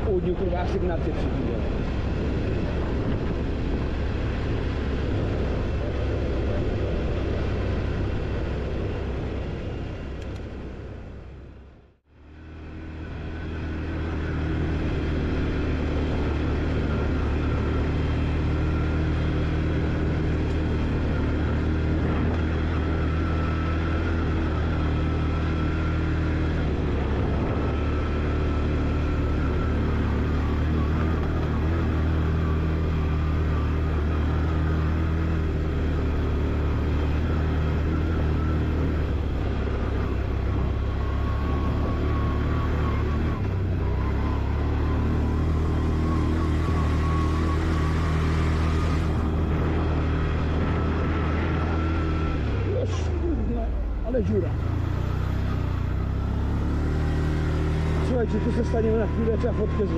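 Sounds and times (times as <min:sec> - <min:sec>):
quad engine droning: 0:00.0 - 0:59.9.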